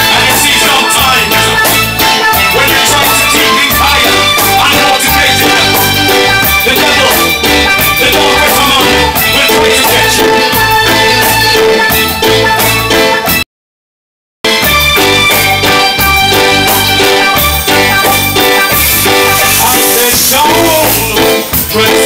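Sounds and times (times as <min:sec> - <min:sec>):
reggae band playing: 0:00.0 - 0:13.4, 0:14.5 - 0:22.0.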